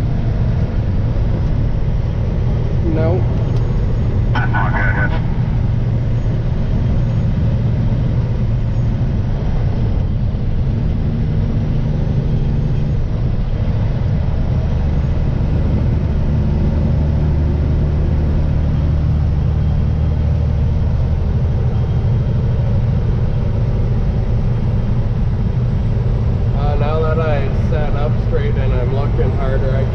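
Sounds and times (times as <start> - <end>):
vehicle engine and tyres droning: 0.0 - 29.9.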